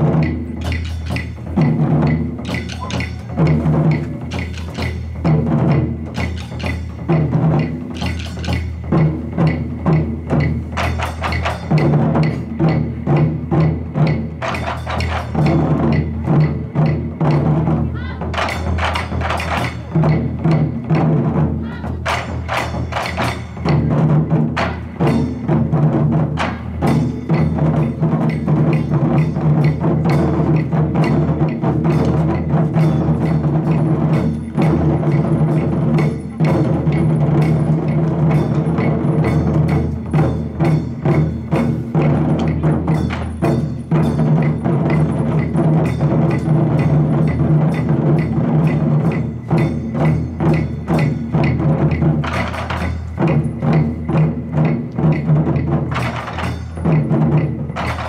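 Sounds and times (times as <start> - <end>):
ensemble of drums playing: 0.0 - 58.0.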